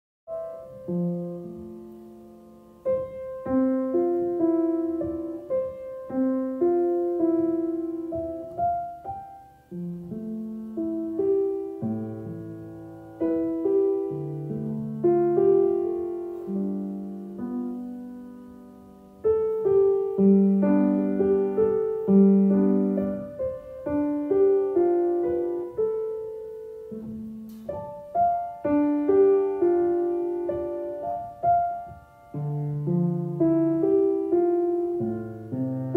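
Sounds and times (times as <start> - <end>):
slow gentle piano music: 0.3 - 35.9.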